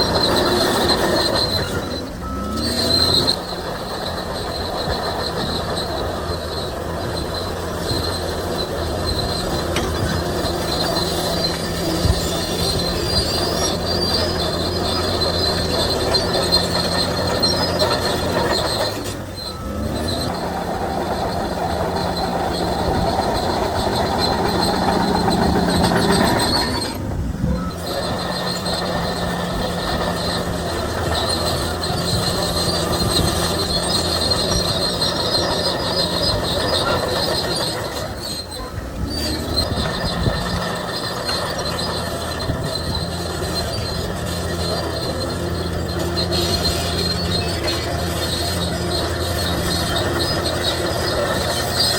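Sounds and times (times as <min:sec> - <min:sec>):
bulldozer diesel engine running: 0:00.0 - 0:51.9
steel tracks squealing and clattering: 0:00.0 - 0:51.9.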